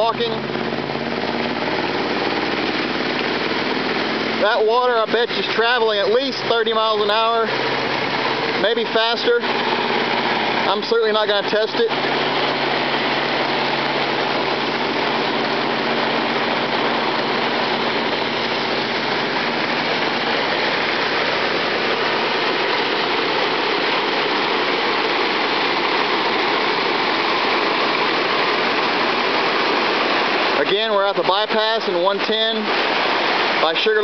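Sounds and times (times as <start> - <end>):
floodwater rushing: 0.0 - 34.0
low steady hum: 0.0 - 34.0.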